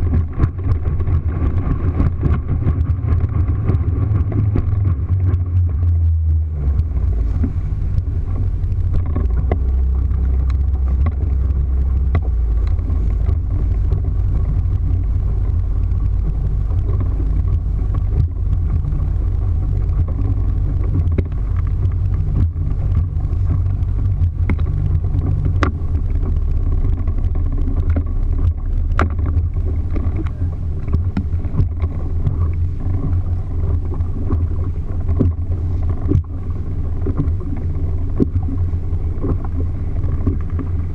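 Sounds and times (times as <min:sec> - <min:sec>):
boat motor humming: 0:00.0 - 0:40.9
hull knocking on waves: 0:00.0 - 0:40.9
water rushing past hull: 0:00.0 - 0:40.9.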